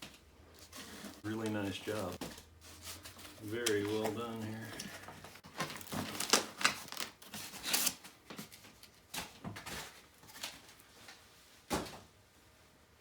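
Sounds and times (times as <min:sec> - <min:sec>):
packing materials rustling: 0:00.0 - 0:11.2.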